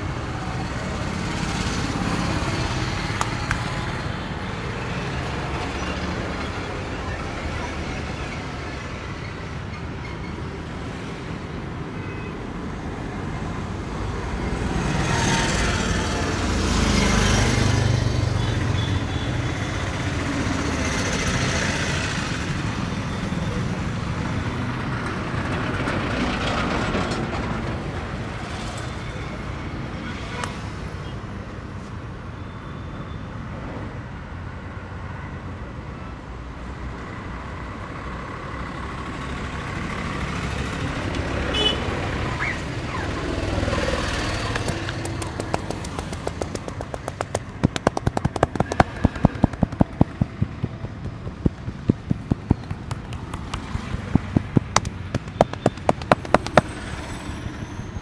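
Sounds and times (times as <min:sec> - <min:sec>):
passing vehicles: 0:00.0 - 0:58.0.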